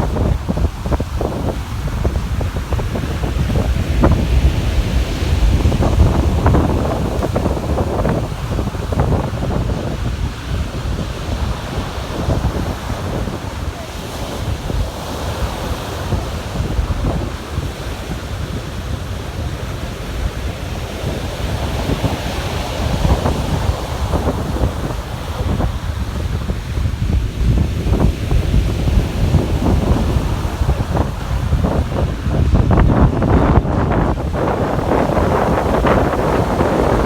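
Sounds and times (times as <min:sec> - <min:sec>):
surf breaking on a beach: 0:00.0 - 0:37.0
wind buffeting microphone: 0:00.0 - 0:37.0.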